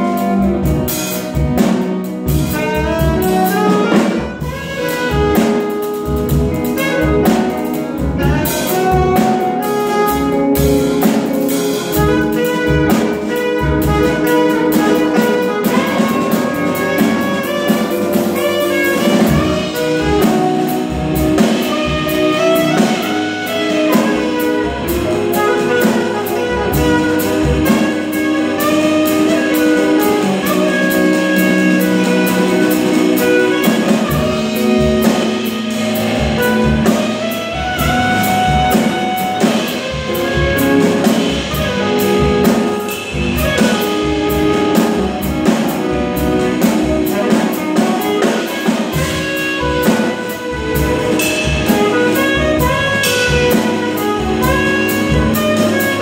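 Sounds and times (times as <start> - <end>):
drum strikes: 0.0 - 56.0
jazz band playing: 0.0 - 56.0.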